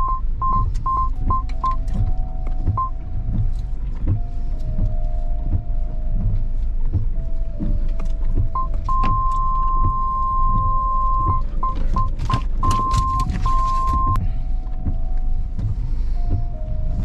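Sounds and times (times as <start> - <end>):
vehicle rumbling on rough track: 0.0 - 17.0
vehicle warning beeps: 0.0 - 17.0.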